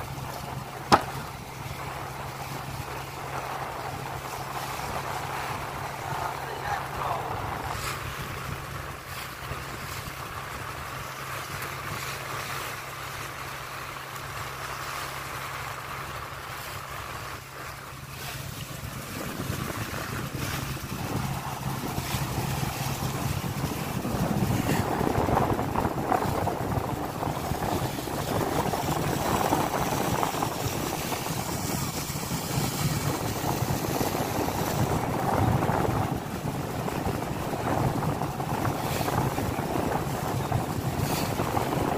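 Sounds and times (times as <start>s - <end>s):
boat engine humming: 0.0s - 41.9s
water rushing along hull: 0.0s - 41.9s.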